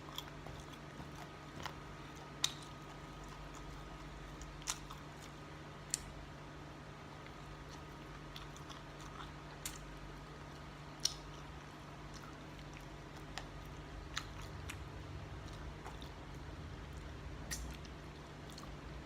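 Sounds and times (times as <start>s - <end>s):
person chewing: 0.0s - 6.2s, 7.1s - 19.0s
steady low hum: 0.0s - 19.0s.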